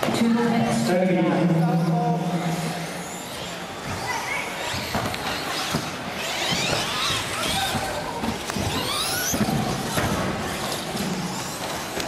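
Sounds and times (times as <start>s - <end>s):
rc car motors whining: 1.7s - 12.0s.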